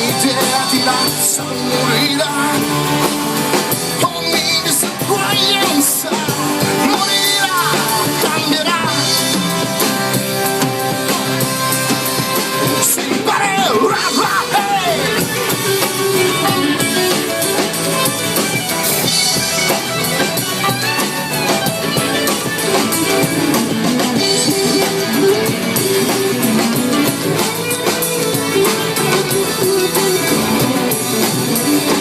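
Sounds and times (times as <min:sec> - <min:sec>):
drum kit: 0:00.0 - 0:32.0
electric guitars playing melody: 0:00.0 - 0:32.0.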